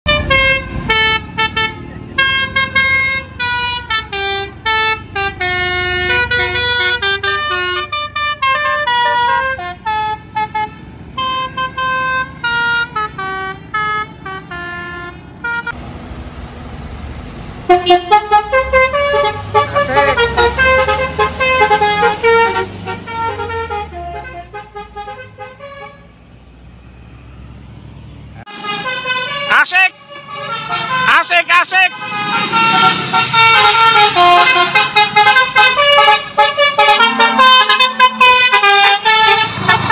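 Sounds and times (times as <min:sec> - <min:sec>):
musical air horn melody: 0:00.1 - 0:15.7, 0:17.7 - 0:26.1, 0:31.9 - 0:39.9.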